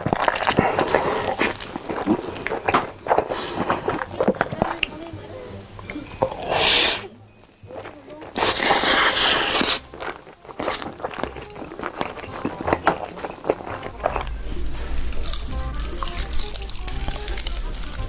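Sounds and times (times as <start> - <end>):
loud crackling bursts: 0.0 - 4.8, 8.3 - 18.0
food crunching while chewed: 0.0 - 5.1, 5.8 - 18.0.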